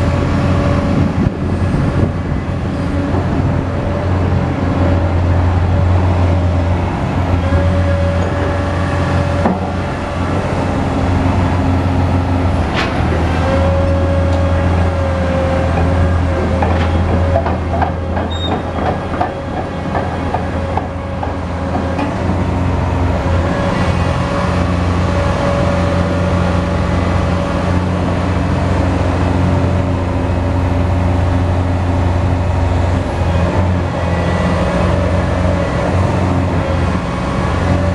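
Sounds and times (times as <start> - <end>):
heavy diesel engine humming: 0.0 - 37.9.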